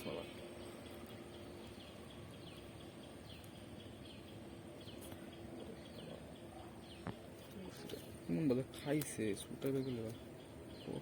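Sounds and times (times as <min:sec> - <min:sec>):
high falling bird chirps: 0:00.0 - 0:11.0
steady low hum: 0:00.0 - 0:11.0.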